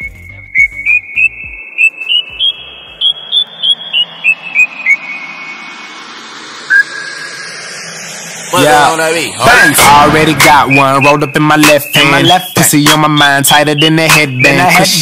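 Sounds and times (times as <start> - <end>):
high whistle-like synth notes: 0.0 - 15.0
rising noise sweep: 0.0 - 15.0.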